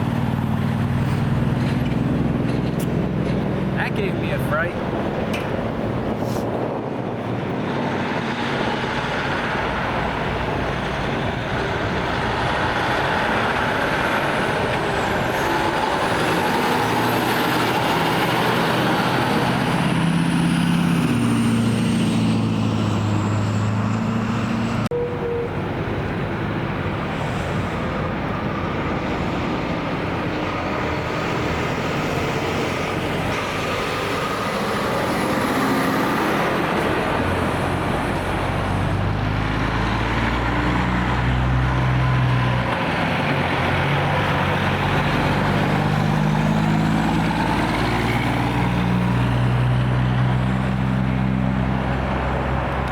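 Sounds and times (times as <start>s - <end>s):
heavy trucks passing: 0.0s - 52.9s.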